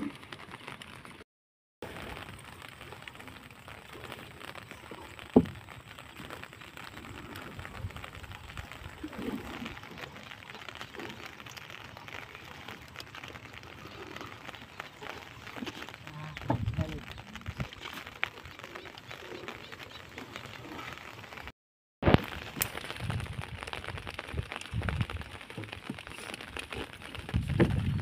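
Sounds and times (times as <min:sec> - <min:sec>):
leaves and water rustling on hull: 0:00.0 - 0:01.2, 0:01.8 - 0:28.0.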